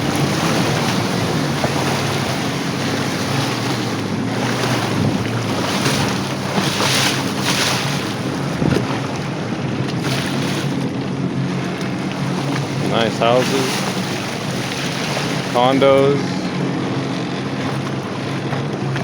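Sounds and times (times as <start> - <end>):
jet ski engine running: 0.0 - 19.0
rushing water: 0.0 - 19.0
wind buffeting microphone: 0.0 - 19.0.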